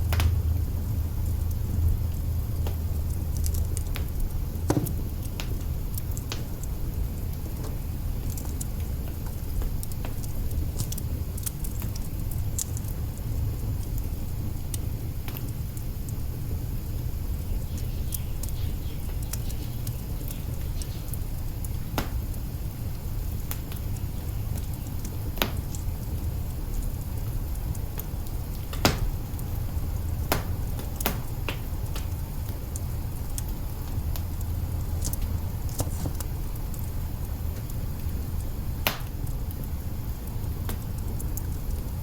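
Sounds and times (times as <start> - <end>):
low steady fire rumble: 0.0 - 42.0
wood fire crackling and popping: 0.0 - 42.0.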